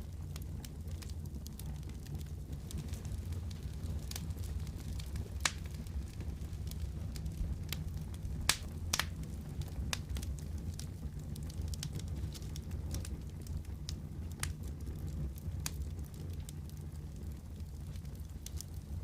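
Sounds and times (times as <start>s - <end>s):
fire pops and crackles: 0.0s - 19.0s
low rumble of flames: 0.0s - 19.0s.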